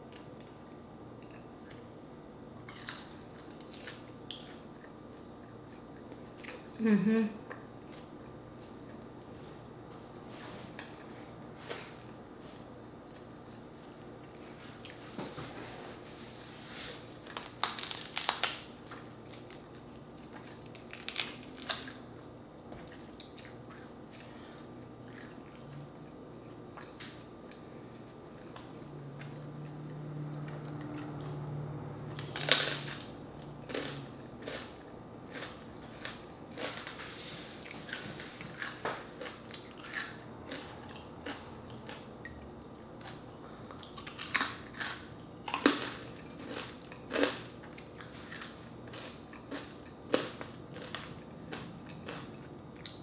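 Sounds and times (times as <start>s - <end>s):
chewing crispy pork skin: 0.0s - 6.8s, 17.0s - 53.0s.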